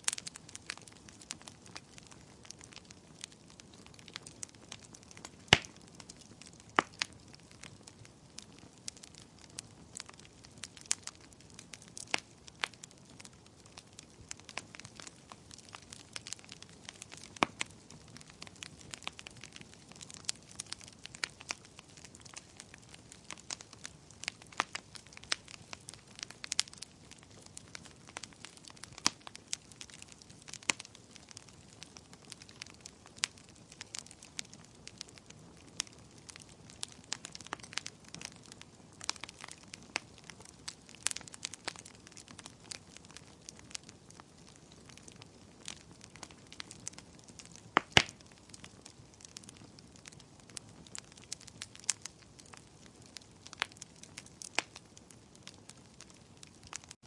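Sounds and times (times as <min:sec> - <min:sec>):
low hiss of burning: 0:00.0 - 0:57.0
wood fire crackling: 0:00.0 - 0:57.0.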